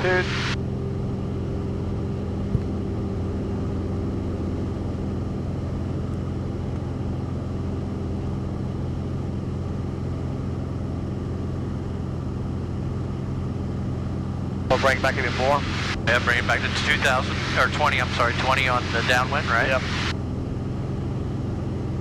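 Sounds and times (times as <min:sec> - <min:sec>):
propeller aircraft engine droning: 0:00.0 - 0:22.0.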